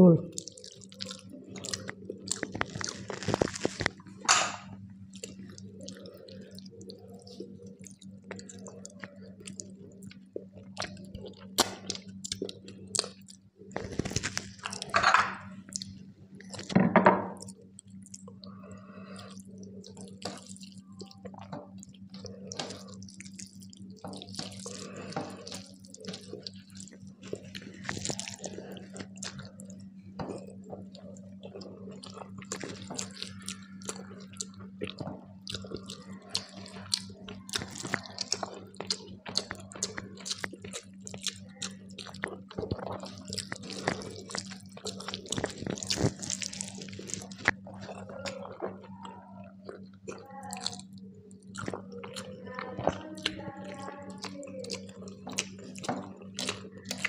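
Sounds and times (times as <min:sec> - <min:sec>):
steady low hum: 0:00.0 - 0:57.0
wet chewing and smacking: 0:00.3 - 0:16.7, 0:17.4 - 0:57.0.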